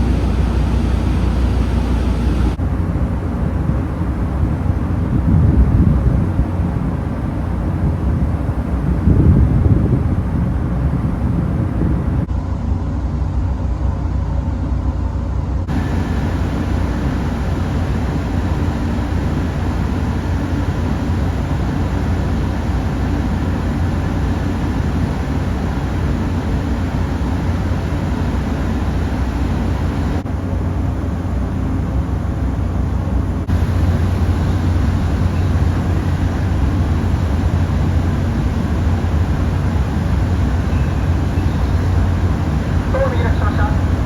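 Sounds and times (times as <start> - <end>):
ferry engines rumbling: 0.0 - 44.0.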